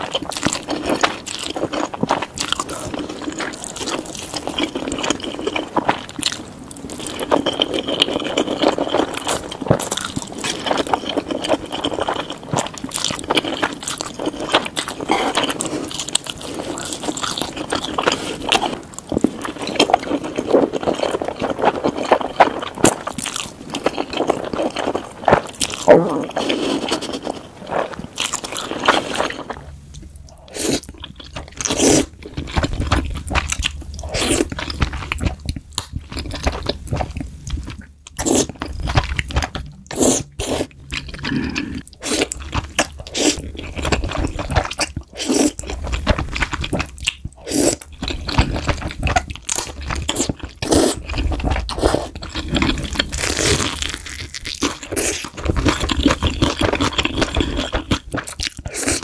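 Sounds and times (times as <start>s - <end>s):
crunching and chewing food: 0.0s - 59.0s.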